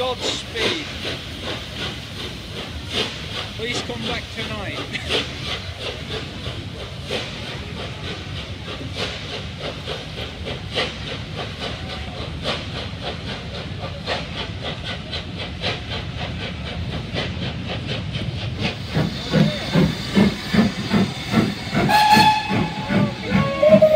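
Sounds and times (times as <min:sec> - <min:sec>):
carriages rumbling on rails: 0:00.0 - 0:23.9
steam hissing: 0:00.0 - 0:23.9
steam locomotive beats: 0:00.0 - 0:23.9.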